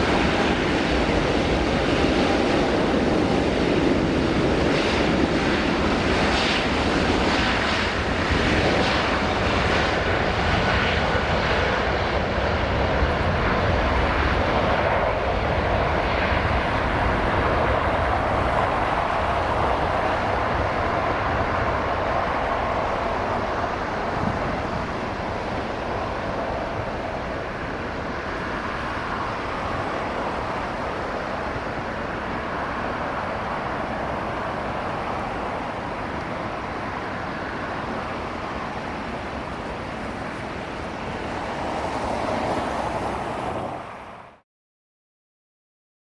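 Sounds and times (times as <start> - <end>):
jet taking off: 0.0 - 44.4.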